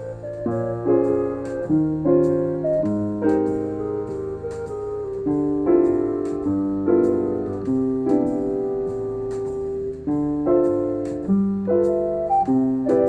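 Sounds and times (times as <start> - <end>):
jazz keyboard chords: 0.0 - 13.0
light drums: 0.0 - 13.0
synth keyboard melody: 0.0 - 13.0.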